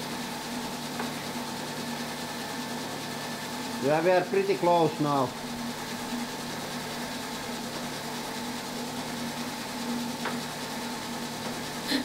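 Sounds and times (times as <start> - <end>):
grinding machine humming: 0.0 - 12.0.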